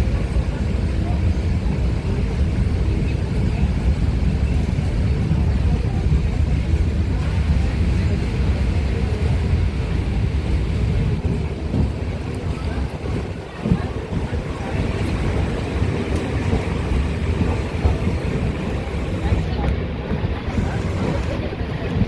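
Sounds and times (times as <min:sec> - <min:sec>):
train rumbling at speed: 0:00.0 - 0:22.0.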